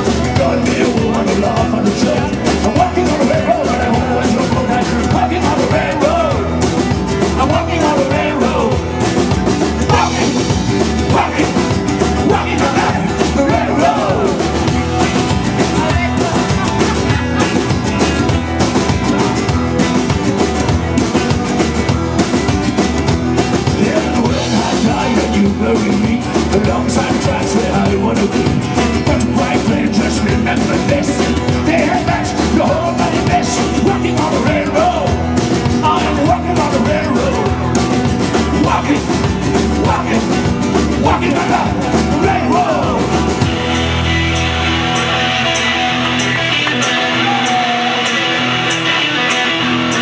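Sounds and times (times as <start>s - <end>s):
acoustic guitar: 0.0s - 50.0s
electric guitar: 0.0s - 50.0s
steady drum beat: 0.0s - 50.0s
upright bass: 0.0s - 50.0s.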